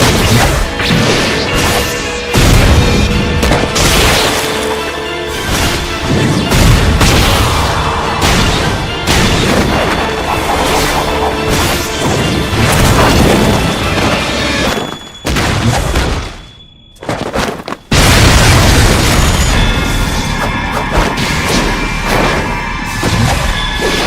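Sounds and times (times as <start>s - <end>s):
booming impacts and crashes: 0.0s - 4.6s, 5.4s - 16.5s, 17.8s - 23.8s
dramatic orchestral music: 0.0s - 16.3s, 18.2s - 24.0s.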